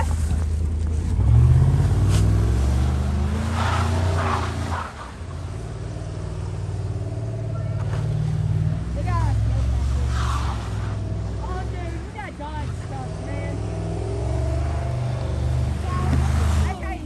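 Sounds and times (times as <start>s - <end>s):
car engine revving hard: 1.0s - 17.0s.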